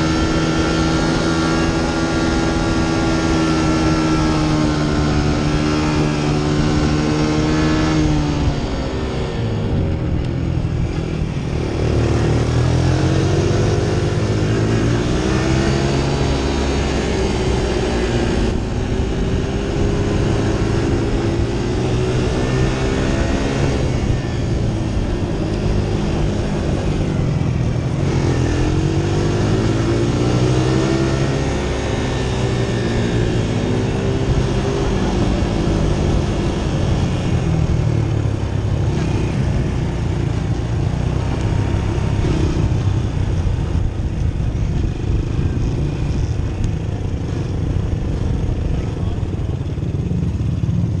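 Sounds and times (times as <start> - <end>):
quad bike engine revving: 0.0 - 51.0.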